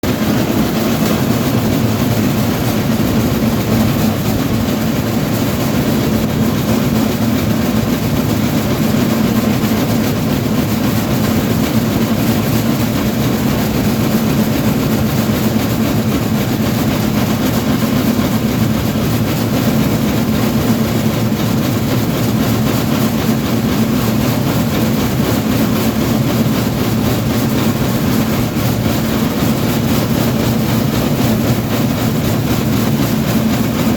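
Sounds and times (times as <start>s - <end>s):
train running: 0.1s - 33.9s.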